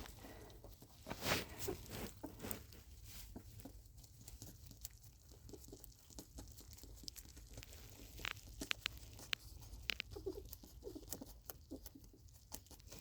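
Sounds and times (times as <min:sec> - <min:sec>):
rabbit nibbling: 0:00.0 - 0:13.0.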